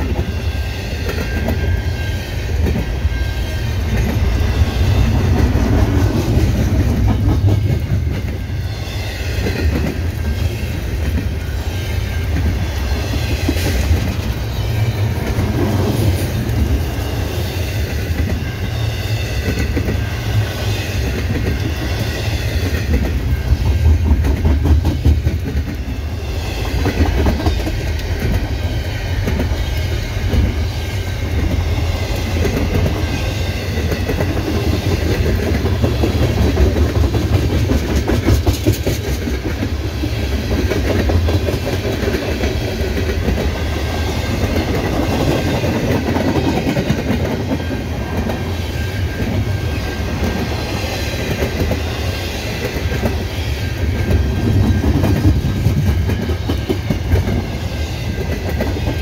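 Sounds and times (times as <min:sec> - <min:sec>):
freight train rumbling past: 0:00.0 - 0:59.0
wheels clacking over rail joints: 0:02.5 - 0:08.5, 0:09.2 - 0:53.2.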